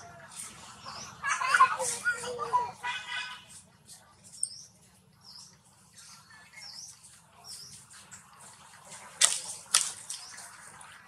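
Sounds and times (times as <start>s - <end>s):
small birds chirping: 0.0s - 2.7s, 3.7s - 11.0s.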